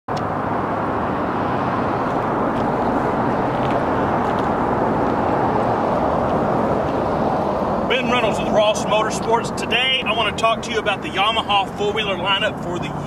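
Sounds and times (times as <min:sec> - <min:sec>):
road traffic rushing: 0:00.1 - 0:13.0.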